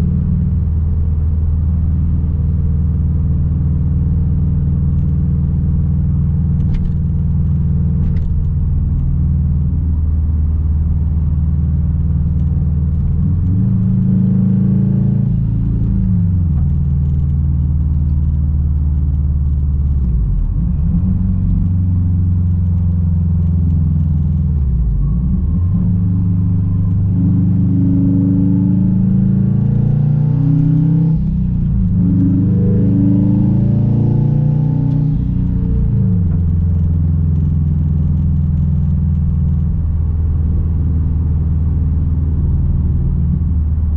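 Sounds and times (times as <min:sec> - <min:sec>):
car engine and exhaust: 0:00.0 - 0:43.9.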